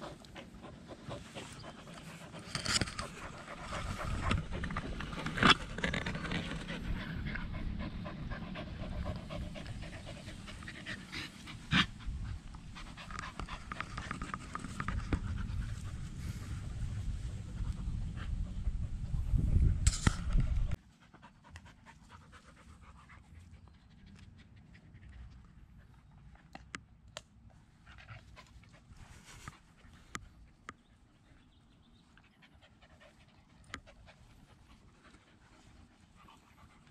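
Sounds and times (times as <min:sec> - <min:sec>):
dogs panting: 0:00.0 - 0:19.6, 0:20.7 - 0:26.7, 0:27.8 - 0:36.9.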